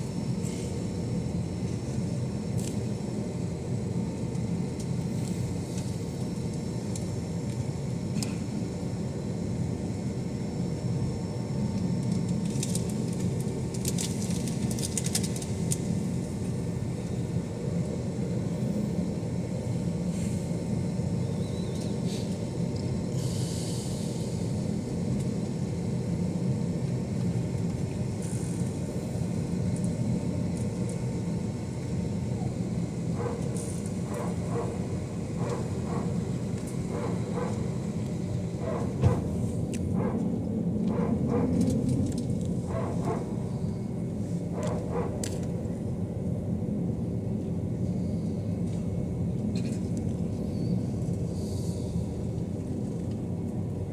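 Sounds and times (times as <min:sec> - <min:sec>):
faint steady hums: 0:00.0 - 0:53.9
jet engines rumbling: 0:00.0 - 0:53.9.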